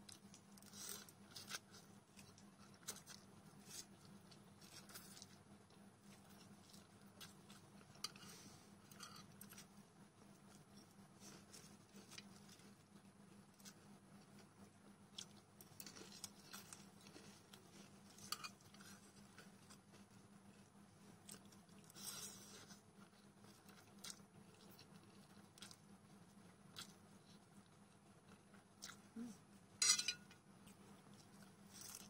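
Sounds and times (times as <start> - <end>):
quiet chewing: 0.0 - 32.0.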